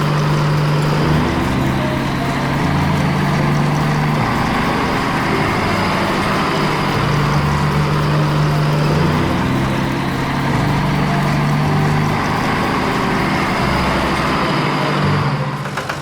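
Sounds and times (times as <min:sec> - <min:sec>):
cartoon engine hum: 0:00.0 - 0:15.9.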